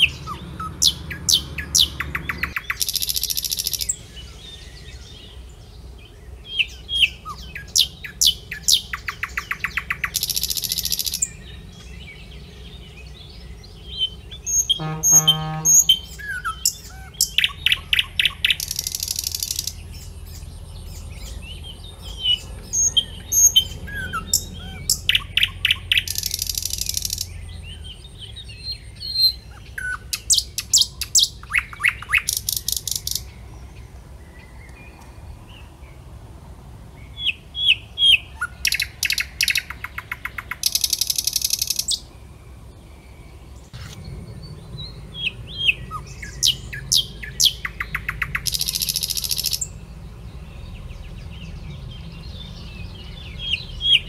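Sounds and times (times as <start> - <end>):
songbird chirping and trilling: 0.0 - 36.2, 36.9 - 54.0.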